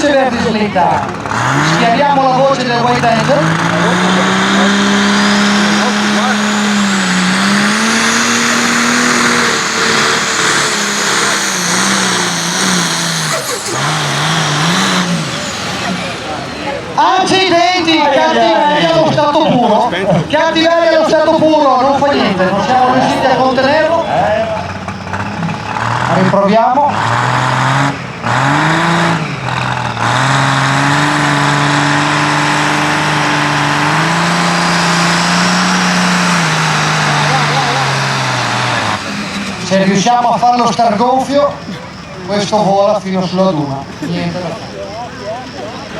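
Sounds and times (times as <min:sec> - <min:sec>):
tractor engine at high revs: 0:00.0 - 0:45.9.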